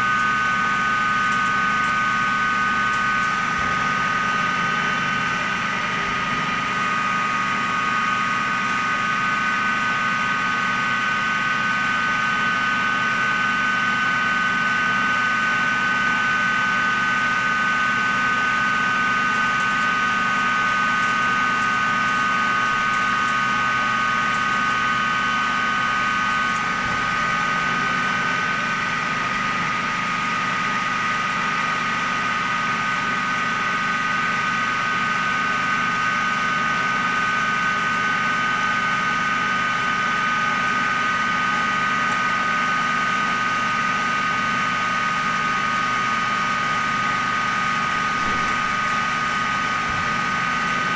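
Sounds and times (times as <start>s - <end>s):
lathe whining over low hum: 0.0s - 50.9s.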